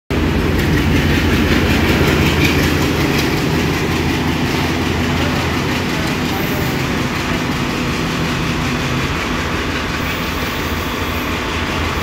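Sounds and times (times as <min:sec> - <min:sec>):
diesel locomotive engine: 0:00.1 - 0:12.0
wheels clicking on rails: 0:00.2 - 0:12.0.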